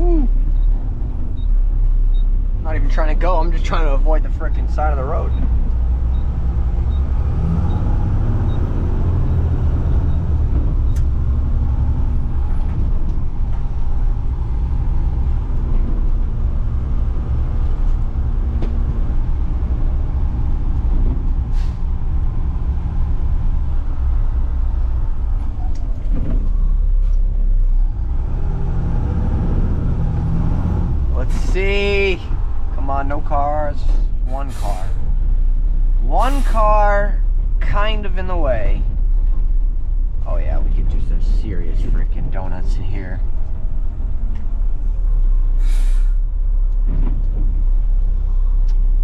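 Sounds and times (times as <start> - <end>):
garbage truck diesel engine: 0.0 - 49.0.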